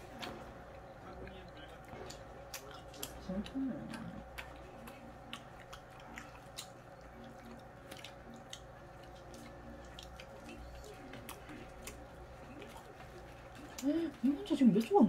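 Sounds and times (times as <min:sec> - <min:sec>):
chewing: 0:00.0 - 0:15.0
low steady hum: 0:00.0 - 0:15.0.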